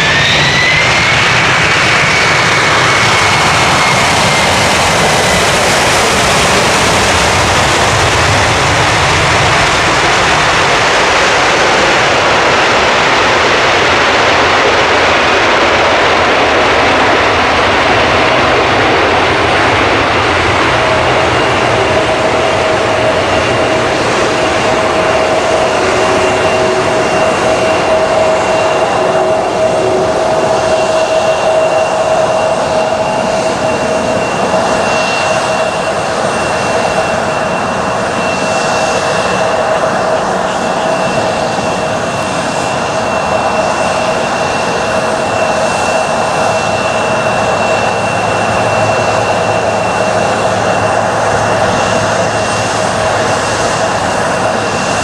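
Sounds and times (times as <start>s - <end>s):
jet engines whining: 0.0s - 55.0s
rushing noise: 0.0s - 55.0s.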